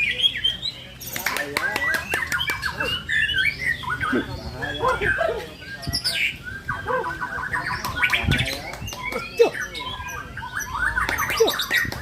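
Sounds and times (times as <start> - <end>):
birds singing chirps and trills: 0.0 - 12.0.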